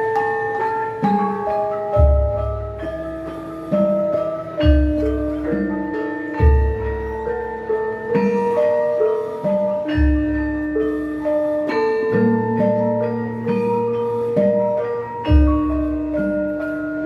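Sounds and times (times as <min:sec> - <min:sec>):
gamelan metallophone melody: 0:00.0 - 0:17.0.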